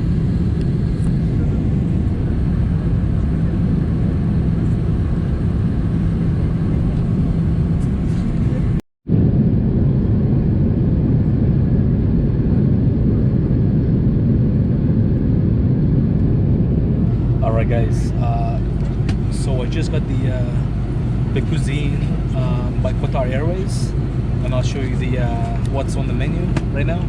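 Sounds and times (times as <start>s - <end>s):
airliner cabin engine drone: 0.0s - 27.0s.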